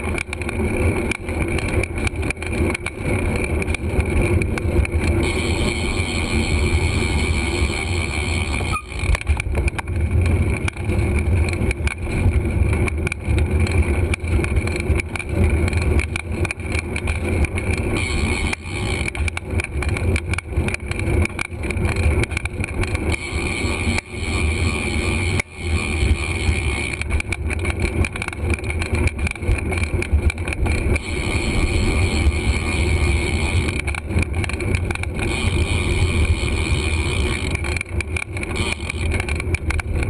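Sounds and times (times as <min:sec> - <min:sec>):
bike knocking and rattling: 0:00.0 - 0:40.0
road noise: 0:00.0 - 0:40.0.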